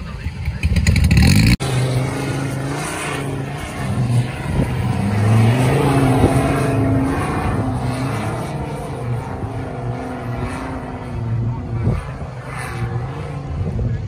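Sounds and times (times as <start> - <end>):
vehicle engine under load: 0.0 - 14.0.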